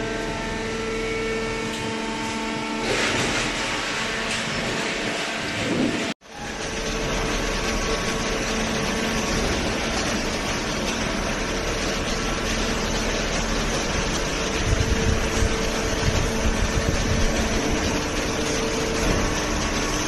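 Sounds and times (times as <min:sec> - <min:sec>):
baler machine hum: 0:00.0 - 0:20.0.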